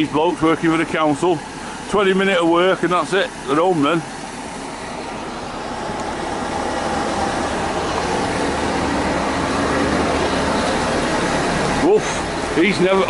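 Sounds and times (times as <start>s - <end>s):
lorry engine rumbling: 0.0s - 13.0s.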